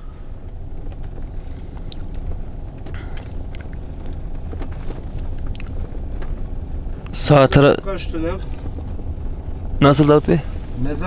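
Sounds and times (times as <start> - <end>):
vehicle engine and tyre rumble: 0.0 - 11.0
small clicks and rattles: 0.3 - 10.2.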